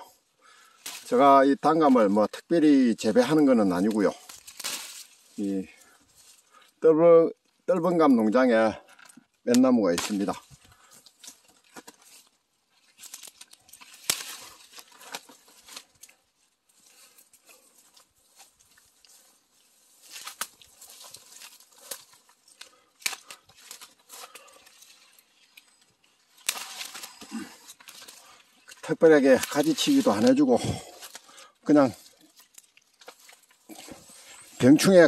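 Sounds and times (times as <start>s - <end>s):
leaves and twigs rustling: 0.0s - 35.0s
twigs snapping: 0.5s - 2.2s, 3.2s - 6.6s, 8.9s - 34.6s.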